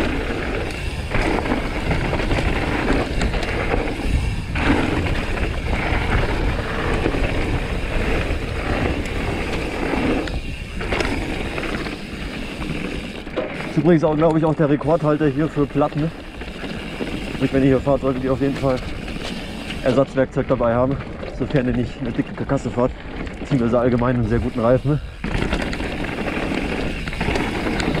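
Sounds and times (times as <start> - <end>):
bike rattling: 0.0 - 28.0
tyres rumbling over rocky ground: 0.0 - 28.0.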